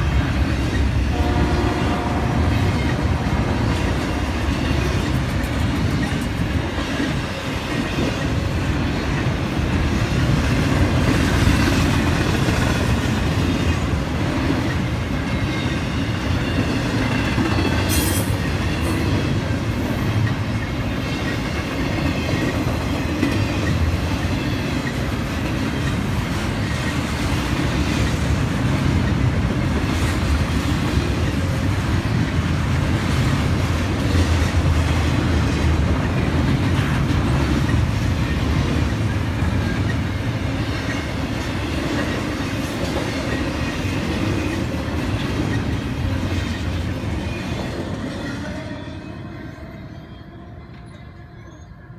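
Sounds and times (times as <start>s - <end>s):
freight train wheels rumbling: 0.0s - 51.6s.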